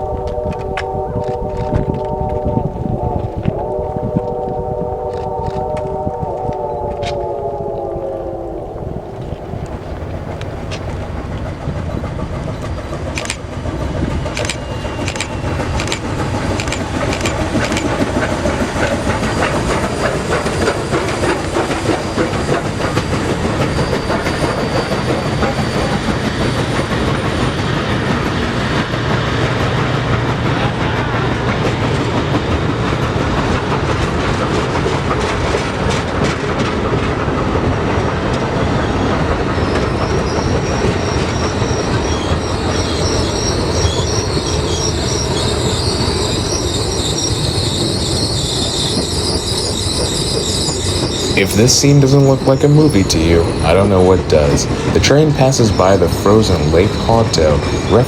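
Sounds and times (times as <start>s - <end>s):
train wheels clicking over rail joints: 0.0s - 7.3s, 9.1s - 58.0s
steady train rumble: 0.0s - 58.0s.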